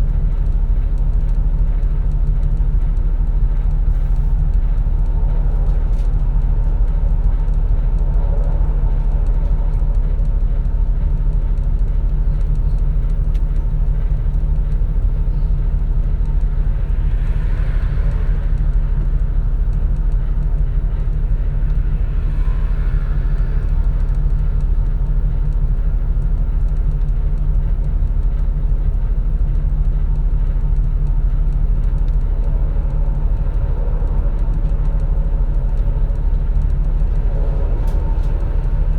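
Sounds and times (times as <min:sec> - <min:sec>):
bus engine rumble: 0:00.0 - 0:38.9.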